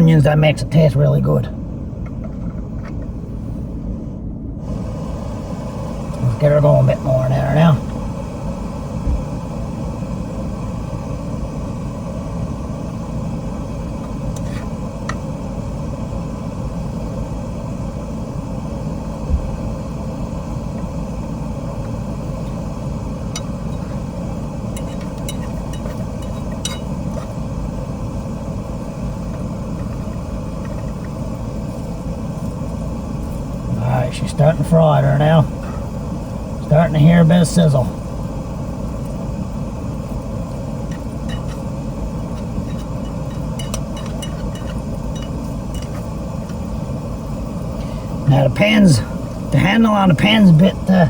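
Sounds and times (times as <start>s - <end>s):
gas camp stove burner rumbling: 0.0s - 51.0s.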